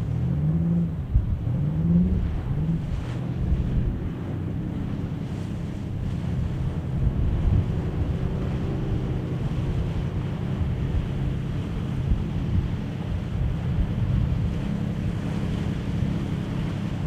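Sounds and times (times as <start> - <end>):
wind blowing on microphone: 0.0 - 17.0.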